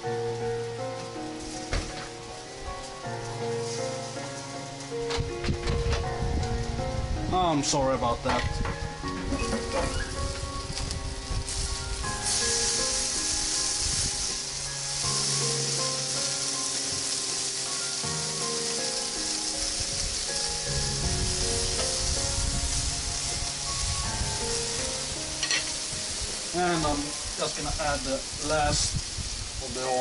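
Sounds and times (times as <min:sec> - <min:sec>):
background music with held notes: 0:00.0 - 0:30.0
mushrooms sizzling on a grill: 0:00.0 - 0:30.0.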